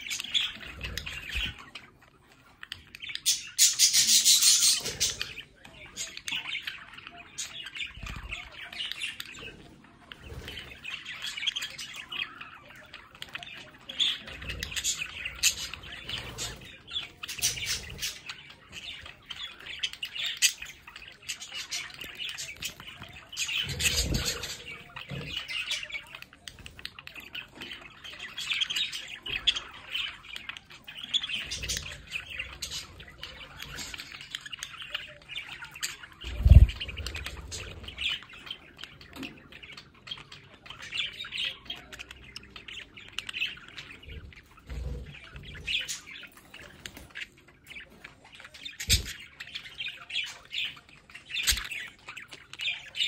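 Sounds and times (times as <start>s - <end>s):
budgerigars chirping and warbling: 0.0s - 53.0s.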